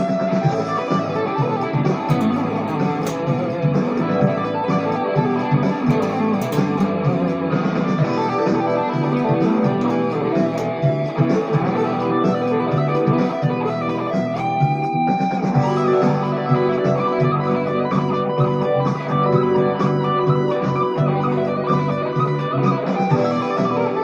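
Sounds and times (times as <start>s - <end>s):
electric guitar playing fast notes: 0.0s - 24.0s.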